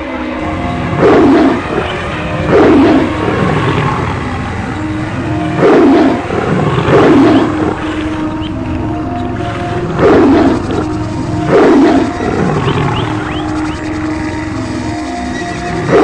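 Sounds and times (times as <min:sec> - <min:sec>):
low rumble: 0:00.3 - 0:16.0
animal roars: 0:00.6 - 0:16.0.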